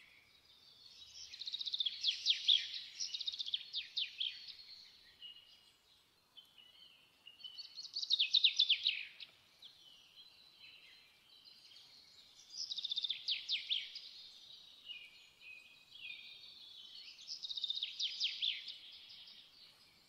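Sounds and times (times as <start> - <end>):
thin whistled bird notes: 0.0 - 20.0.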